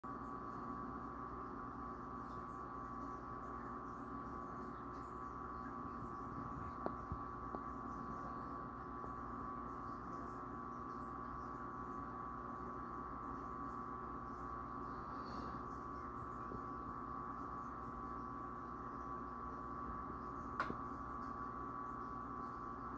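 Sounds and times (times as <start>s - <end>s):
aquarium equipment humming: 0.0s - 22.9s.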